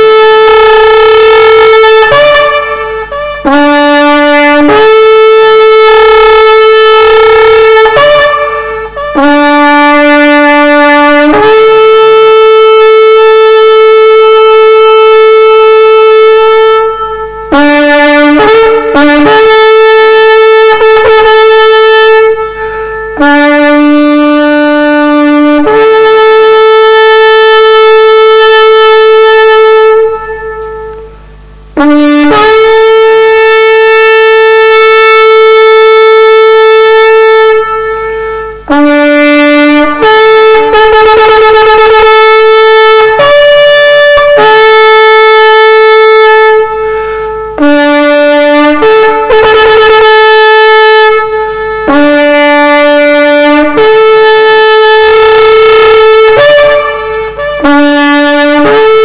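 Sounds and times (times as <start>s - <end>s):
shofar blasts: 0.0s - 59.0s.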